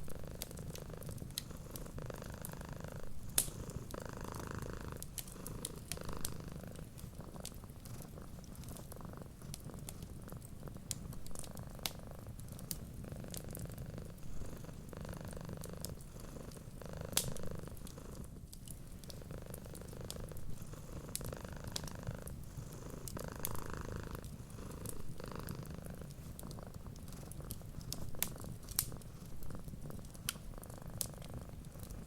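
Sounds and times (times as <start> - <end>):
cat purring: 0.0 - 32.0
wood fire crackling: 0.0 - 32.0.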